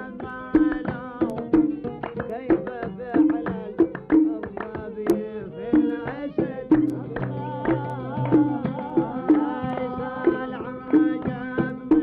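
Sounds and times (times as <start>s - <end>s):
hand drum beat: 0.0s - 12.0s
oud playing: 0.0s - 12.0s.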